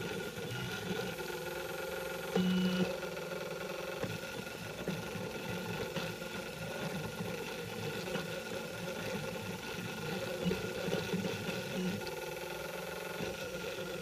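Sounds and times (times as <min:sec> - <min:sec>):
printer stepper motors buzzing: 0:00.0 - 0:14.0.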